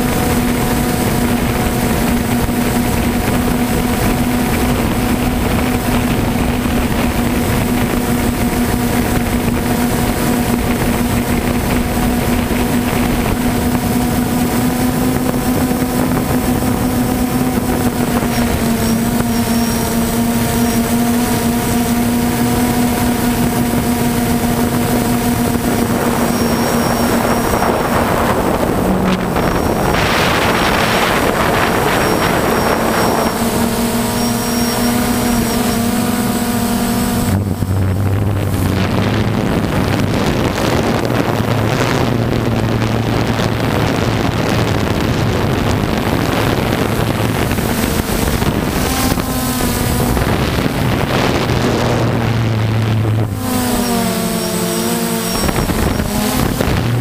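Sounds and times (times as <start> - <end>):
drone propellers whirring: 0.0 - 57.0
wind on microphone: 0.0 - 57.0.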